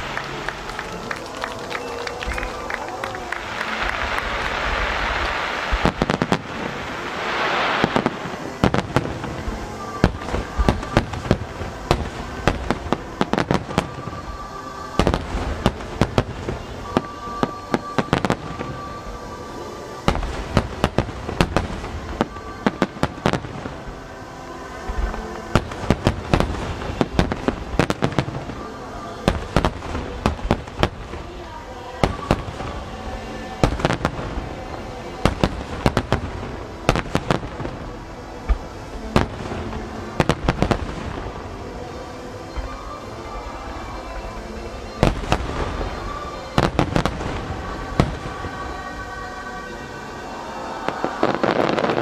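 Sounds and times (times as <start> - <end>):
fireworks bangs and crackles: 0.0 - 49.4, 50.6 - 52.0
background music: 0.0 - 52.0.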